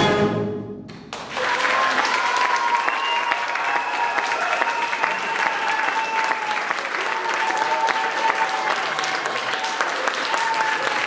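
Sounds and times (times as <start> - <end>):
audience clapping: 0.9 - 11.0
audience cheering: 1.1 - 11.0.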